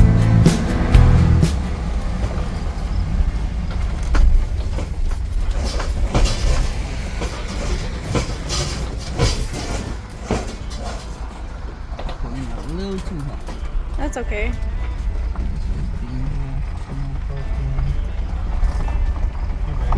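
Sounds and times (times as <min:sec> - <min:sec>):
engine and road rumble: 0:00.0 - 0:19.9
rattles and clunks: 0:00.0 - 0:19.9.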